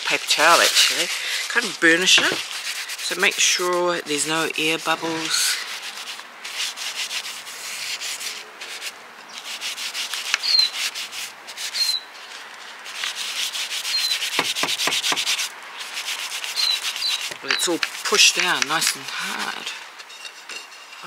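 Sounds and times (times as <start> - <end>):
paper towel rasping on pot: 0.0 - 21.0.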